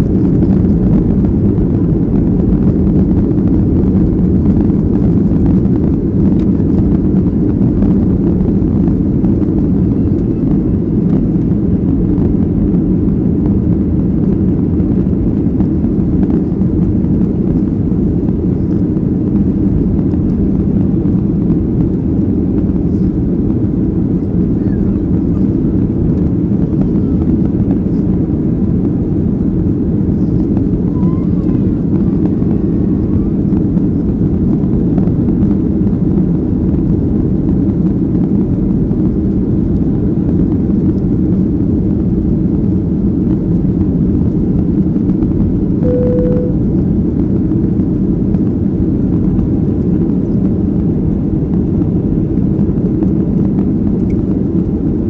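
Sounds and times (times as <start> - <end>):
jet engines drone in cabin: 0.0 - 55.0.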